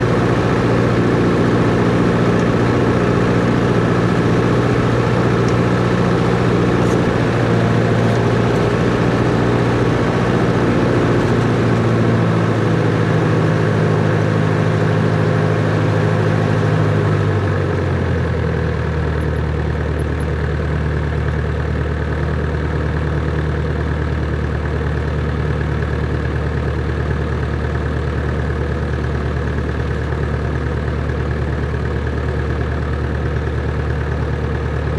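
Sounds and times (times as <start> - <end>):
propeller plane engine running: 0.0 - 34.9.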